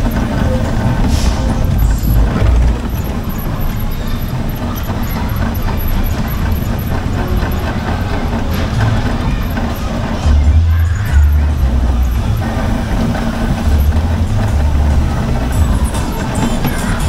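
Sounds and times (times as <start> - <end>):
fairground ride low rumble: 0.0 - 17.0.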